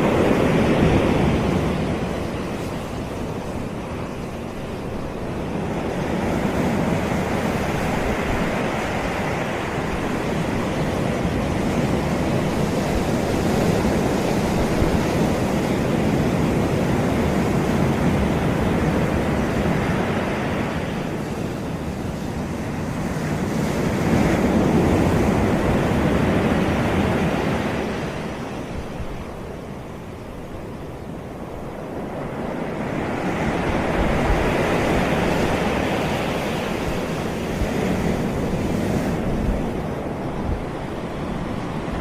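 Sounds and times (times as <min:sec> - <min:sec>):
sea waves breaking on a beach: 0:00.0 - 0:42.0.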